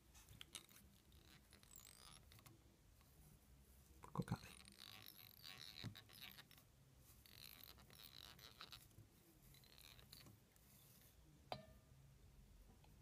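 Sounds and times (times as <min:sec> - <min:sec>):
thread rustling: 0:00.0 - 0:11.3.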